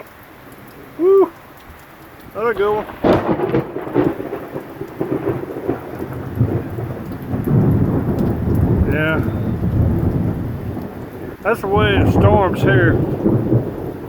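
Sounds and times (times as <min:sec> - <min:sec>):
steady rain: 0:00.0 - 0:14.0
thunder crackling and rumbling: 0:02.2 - 0:14.0.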